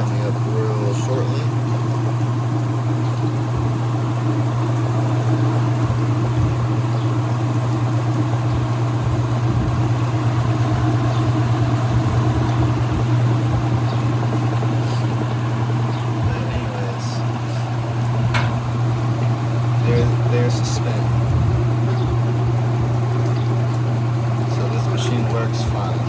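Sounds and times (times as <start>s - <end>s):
washing machine spin cycle hum: 0.0s - 26.0s.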